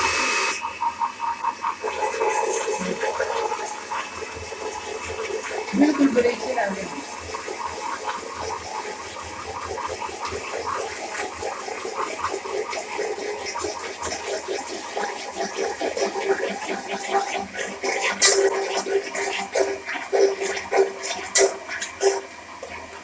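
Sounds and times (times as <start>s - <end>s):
electric blender running: 0.0s - 23.0s.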